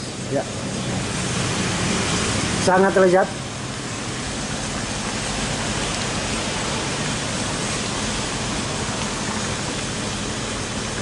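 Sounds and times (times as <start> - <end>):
stew boiling and bubbling: 0.0 - 11.0.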